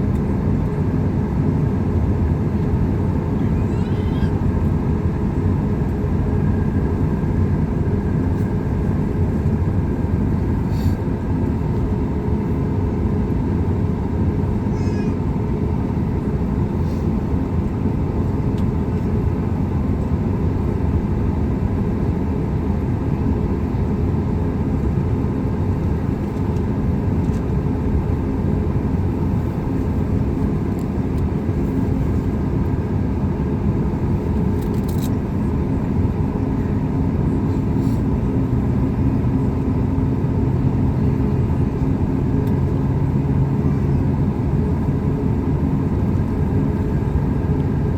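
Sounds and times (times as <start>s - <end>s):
jet engines idling in cabin: 0.0s - 47.9s.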